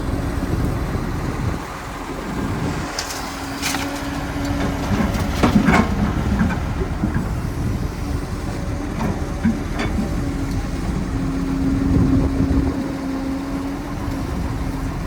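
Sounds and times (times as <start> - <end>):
diesel construction machinery running: 0.0 - 15.0.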